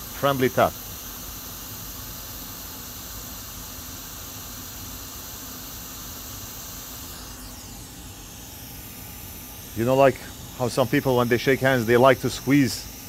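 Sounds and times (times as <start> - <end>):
hot air blower hissing: 0.0 - 13.0.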